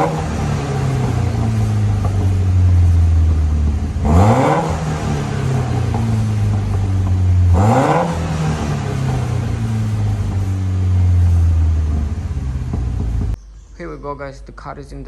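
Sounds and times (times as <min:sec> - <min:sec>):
car engine idling and revving: 0:00.0 - 0:13.4.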